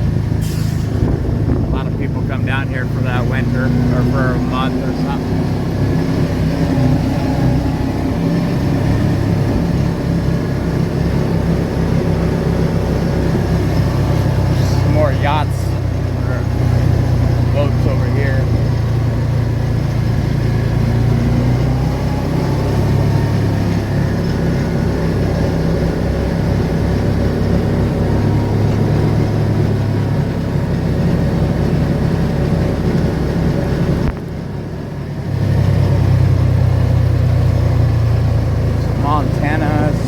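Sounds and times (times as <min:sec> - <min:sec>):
car engine hum: 0:00.0 - 0:40.0
road noise inside moving car: 0:00.0 - 0:40.0.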